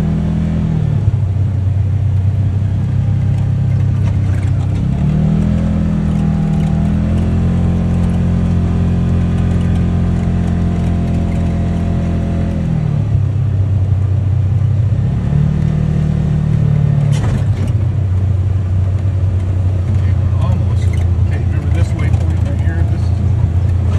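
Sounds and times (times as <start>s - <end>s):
utility vehicle engine running: 0.0s - 23.9s.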